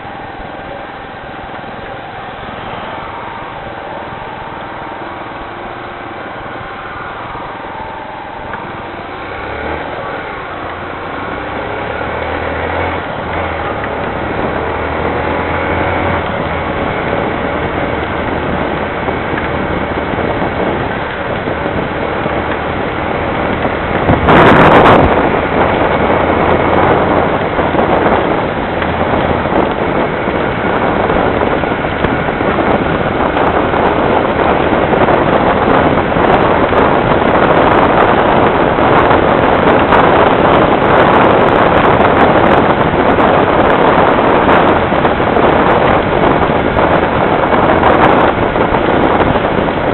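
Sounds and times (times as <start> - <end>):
heavy rain pouring: 0.0 - 49.9
low engine hum: 0.0 - 49.9.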